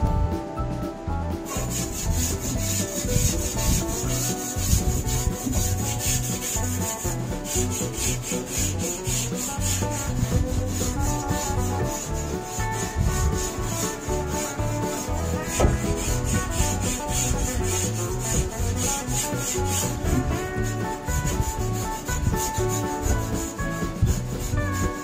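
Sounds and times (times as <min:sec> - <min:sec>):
brush scrubbing wet metal: 0:01.4 - 0:25.0.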